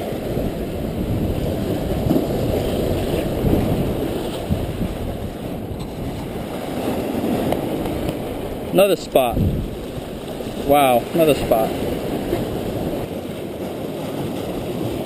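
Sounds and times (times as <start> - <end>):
waves washing against rocks: 0.0 - 15.0
wind rumbling on microphone: 0.0 - 15.0.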